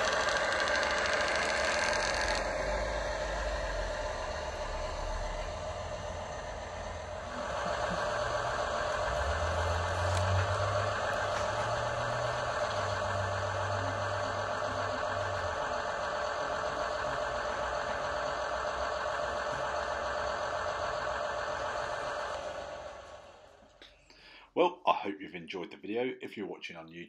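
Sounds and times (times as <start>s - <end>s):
deep hum: 0.0s - 24.4s
diesel engine idling through small speaker: 0.0s - 24.4s.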